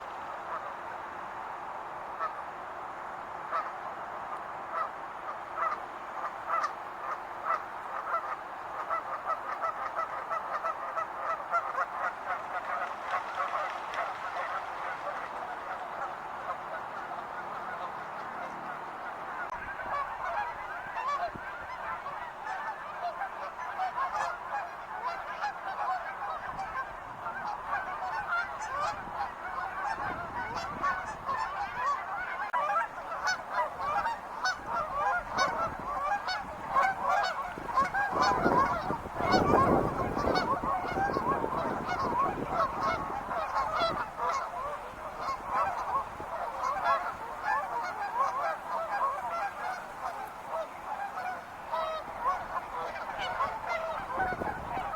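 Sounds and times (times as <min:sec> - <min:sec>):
geese honking: 0:00.0 - 0:00.8, 0:02.1 - 0:02.6, 0:03.4 - 0:03.8, 0:04.4 - 0:54.9.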